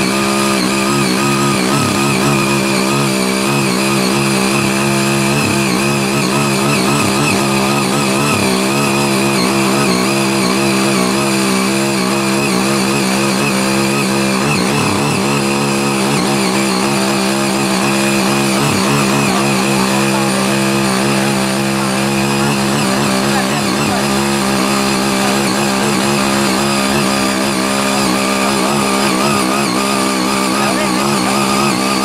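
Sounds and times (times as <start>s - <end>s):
power tiller engine running: 0.0s - 32.0s.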